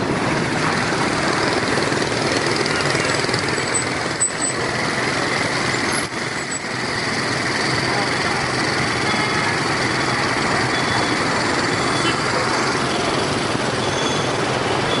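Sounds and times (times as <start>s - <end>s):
cars passing: 0.0s - 15.0s
motorbike engines idling: 0.0s - 15.0s.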